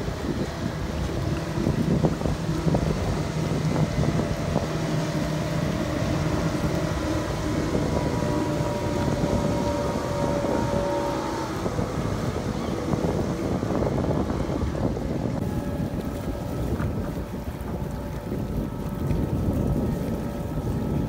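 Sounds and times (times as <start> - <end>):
rushing water: 0.0 - 21.0
speedboat engines whining: 0.0 - 21.0
wind buffeting microphone: 0.0 - 21.0.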